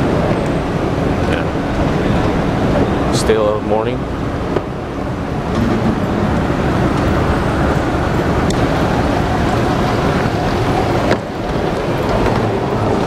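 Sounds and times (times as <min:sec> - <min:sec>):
moving vehicle rumbling: 0:00.0 - 0:13.0.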